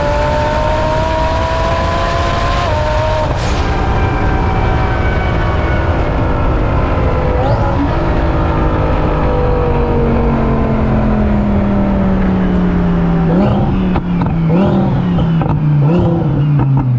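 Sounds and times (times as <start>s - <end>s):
car engine running loud: 0.0s - 16.9s.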